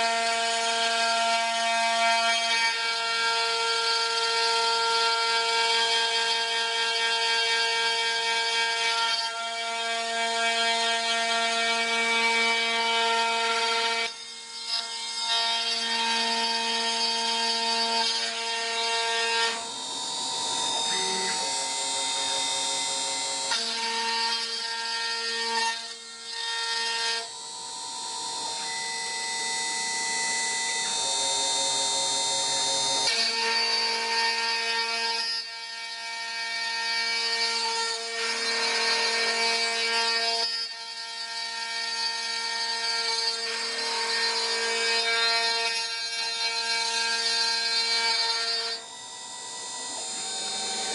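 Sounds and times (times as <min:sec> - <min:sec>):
router spindle whining: 0:00.0 - 0:50.9.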